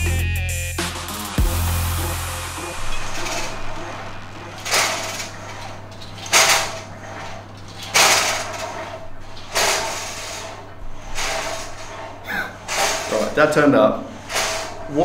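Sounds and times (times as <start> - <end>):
cables swooshing through pulleys: 1.1 - 15.0.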